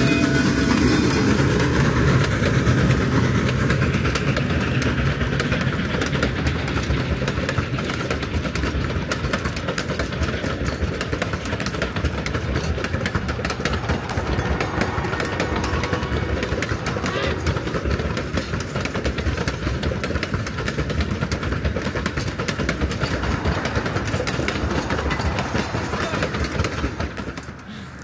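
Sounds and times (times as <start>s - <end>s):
steam train running by: 0.0s - 28.0s
wheels clicking on rails: 0.0s - 28.0s.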